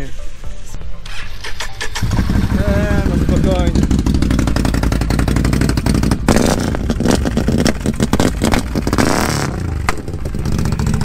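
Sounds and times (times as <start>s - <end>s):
quad bike engine revving: 1.8s - 11.0s.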